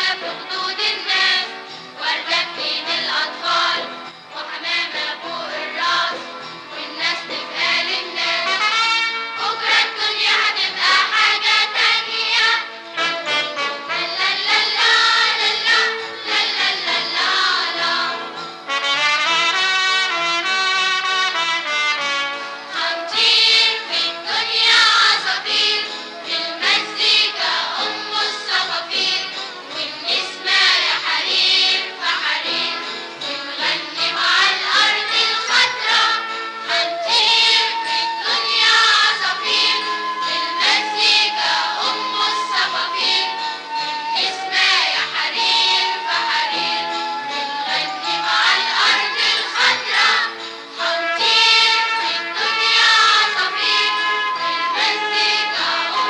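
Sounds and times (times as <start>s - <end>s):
choir singing: 0.0s - 18.5s, 22.7s - 56.0s
instrumental backing music: 0.0s - 56.0s.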